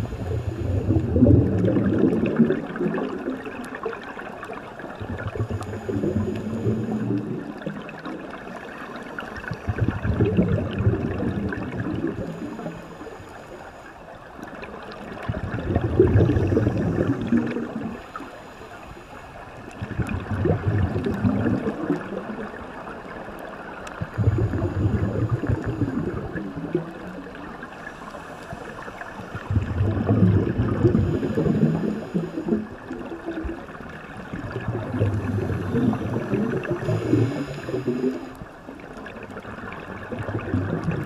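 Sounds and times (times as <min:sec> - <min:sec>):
underwater air bubbling: 0:00.0 - 0:41.0.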